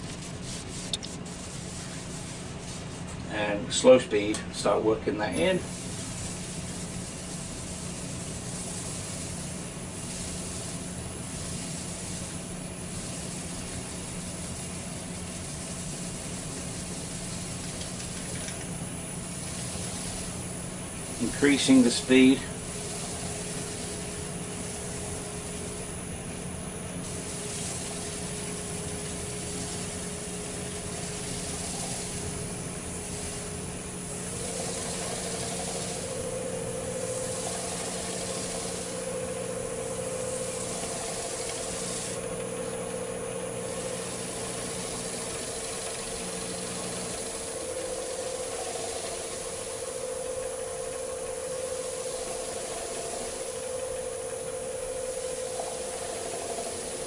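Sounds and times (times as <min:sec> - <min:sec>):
hissing rub on spinning bowl: 0:00.0 - 0:57.0
wood lathe motor hum: 0:00.0 - 0:57.0.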